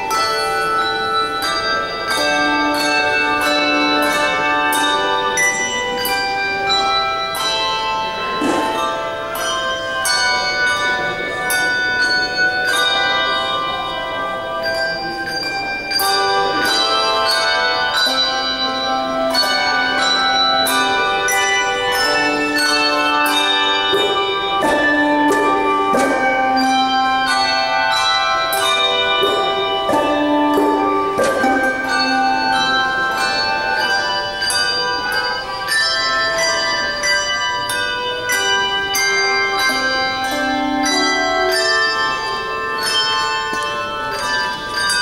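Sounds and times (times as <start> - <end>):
handbell choir playing: 0.0 - 45.0.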